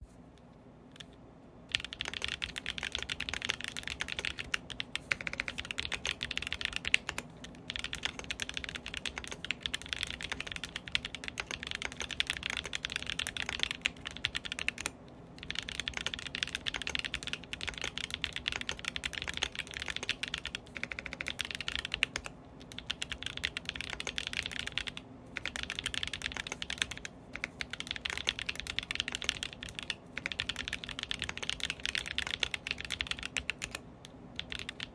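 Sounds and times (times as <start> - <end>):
fast mechanical keyboard typing: 1.7 - 33.8, 34.4 - 34.9.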